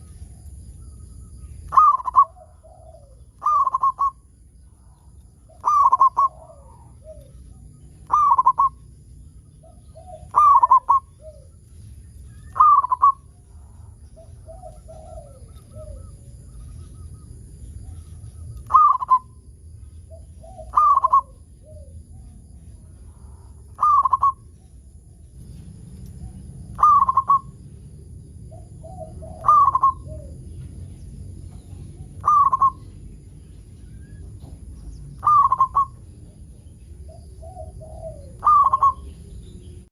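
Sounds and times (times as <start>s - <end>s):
dove cooing: 1.7s - 8.9s, 9.6s - 11.6s, 12.4s - 19.4s, 20.1s - 22.4s, 23.1s - 24.6s, 26.2s - 30.8s, 31.5s - 33.1s, 33.9s - 39.8s.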